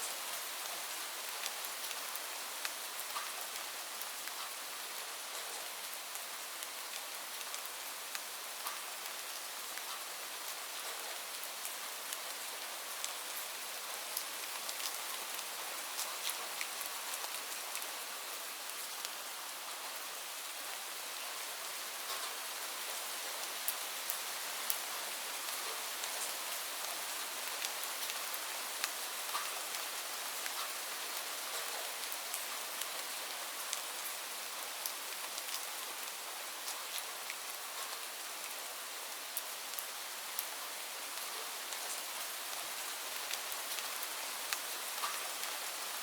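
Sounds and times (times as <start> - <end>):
raindrops ticking on a surface: 0.0 - 46.0
steady rain hiss: 0.0 - 46.0.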